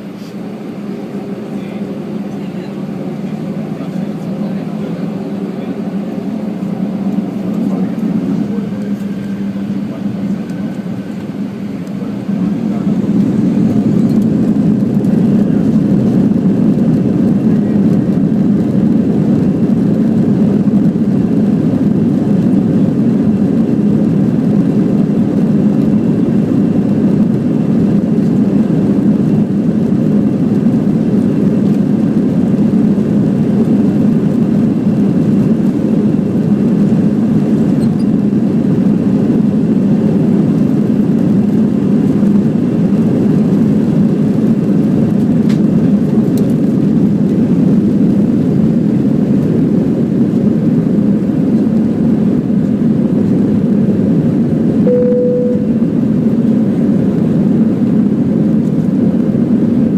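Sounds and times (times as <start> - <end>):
jet engines droning in cabin: 0.0 - 59.9.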